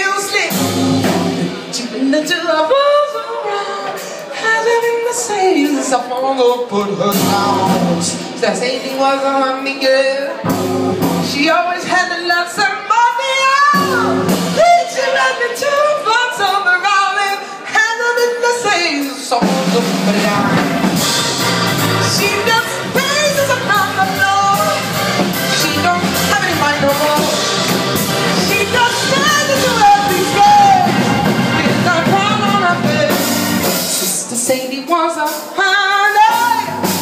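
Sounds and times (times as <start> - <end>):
woman singing: 0.0 - 0.8, 1.6 - 10.6, 11.2 - 20.7, 22.0 - 27.7, 28.3 - 37.0
drum kit: 0.0 - 2.5, 3.1 - 9.2, 9.8 - 37.0.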